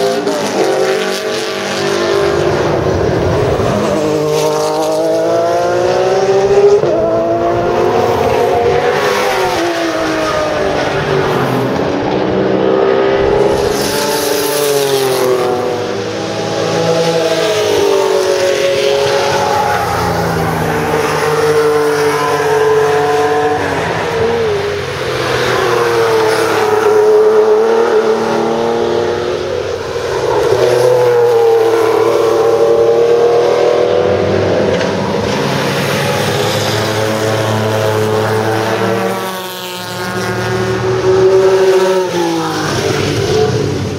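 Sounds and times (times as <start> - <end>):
racing car engines at full throttle: 0.0 - 43.9.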